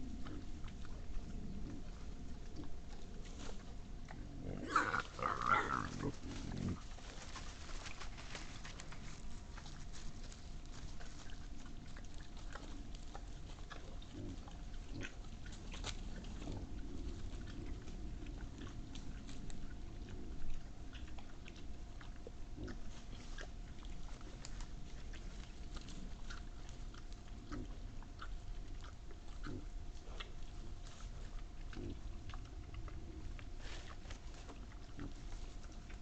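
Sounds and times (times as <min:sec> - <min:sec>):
boar chewing and crunching bones: 0:00.0 - 0:36.0.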